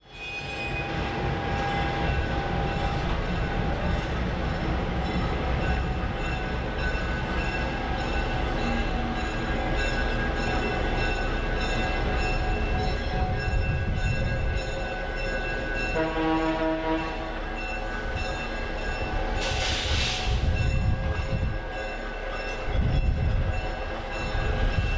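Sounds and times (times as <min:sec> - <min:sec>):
train wheels rumbling on track: 0:00.0 - 0:24.9.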